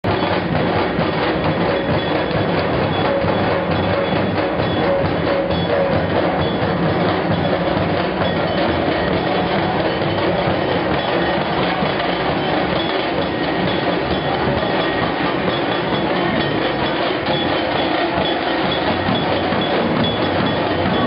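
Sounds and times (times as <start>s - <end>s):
dhol drums beating: 0.0s - 21.0s.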